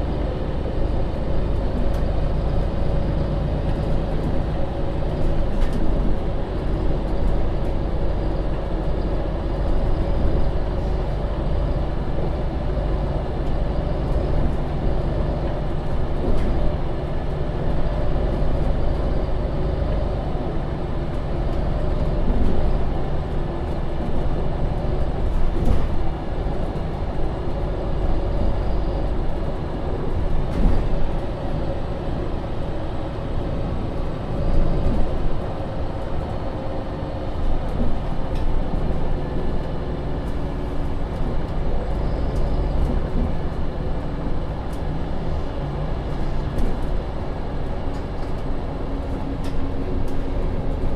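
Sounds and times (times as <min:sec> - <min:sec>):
bus engine droning: 0:00.0 - 0:50.9.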